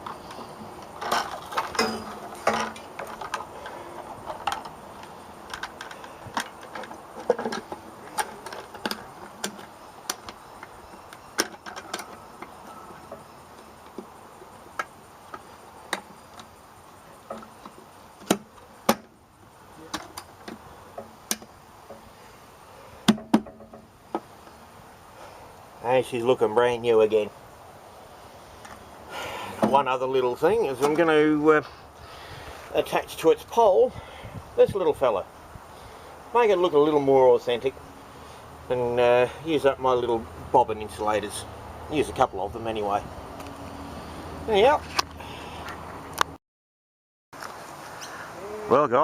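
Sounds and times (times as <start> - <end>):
steady background noise: 0.0 - 46.4.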